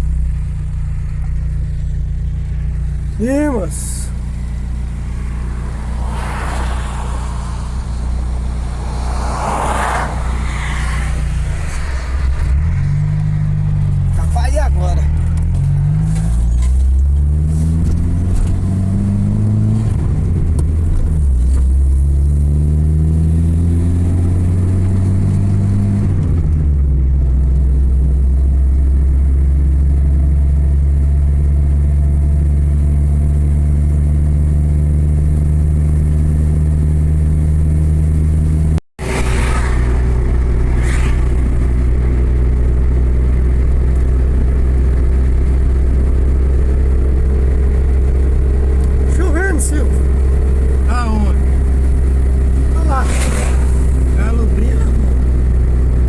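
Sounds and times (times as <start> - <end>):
vehicle engine accelerating: 0.0 - 56.0.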